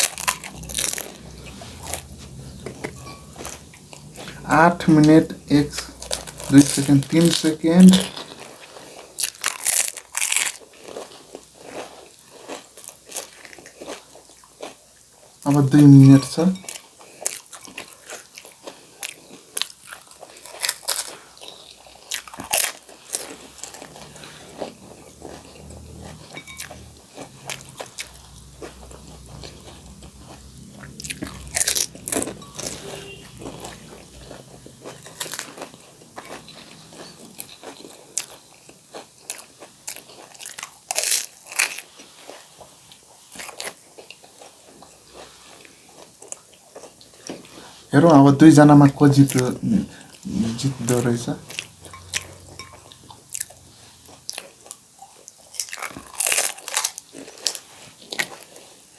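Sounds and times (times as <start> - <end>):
chewing: 0.0 - 47.9, 48.8 - 58.9
crisp food crunching: 0.0 - 58.9.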